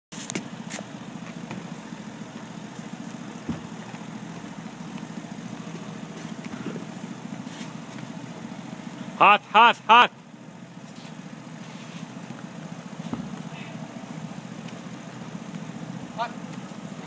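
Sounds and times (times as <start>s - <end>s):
engine idling: 0.1s - 17.0s.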